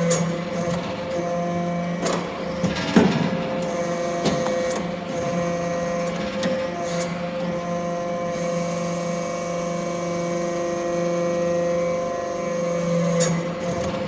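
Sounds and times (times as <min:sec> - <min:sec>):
hydraulic pump hum and whine: 0:00.0 - 0:14.0.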